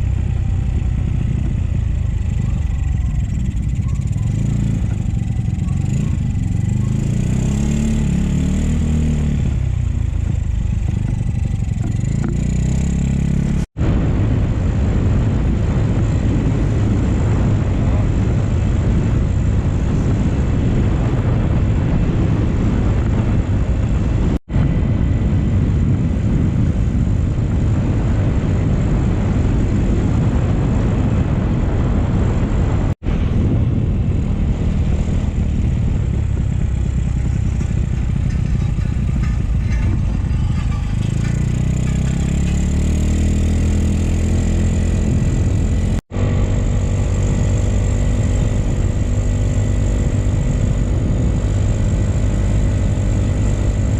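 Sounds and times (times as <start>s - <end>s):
motorcycle engine: 0.0s - 53.9s
wind rush on microphone: 0.0s - 53.9s.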